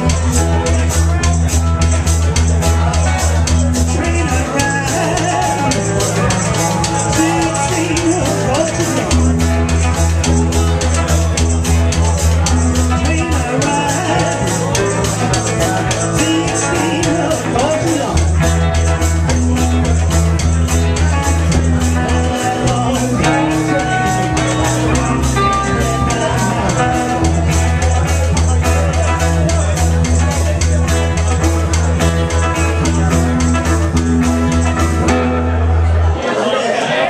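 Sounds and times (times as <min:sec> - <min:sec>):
drums beating: 0:00.0 - 0:35.9
bass line: 0:00.0 - 0:36.5
live band playing: 0:00.0 - 0:37.0.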